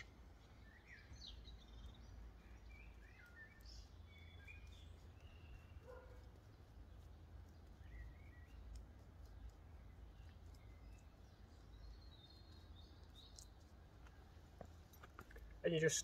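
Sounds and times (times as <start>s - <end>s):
bird chirps: 0.0s - 14.3s.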